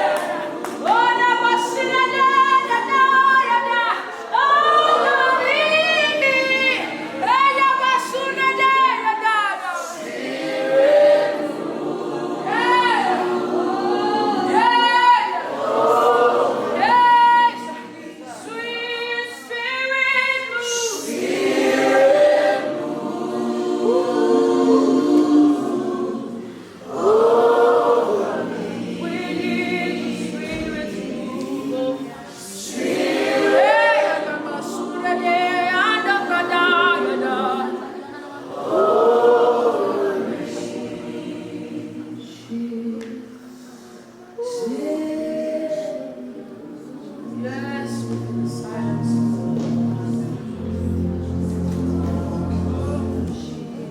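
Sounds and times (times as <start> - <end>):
group singing a worship song: 0.0 - 53.9.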